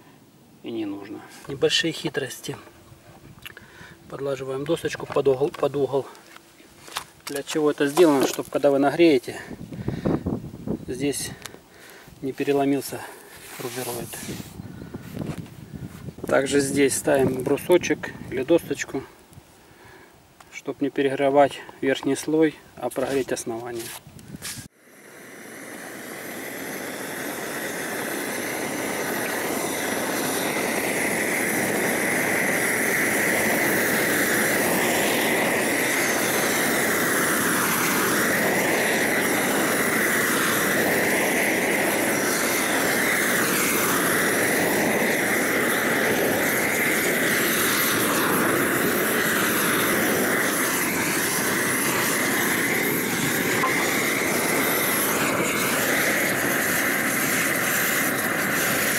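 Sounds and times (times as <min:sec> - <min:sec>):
propane torch burning: 0:00.0 - 0:58.9.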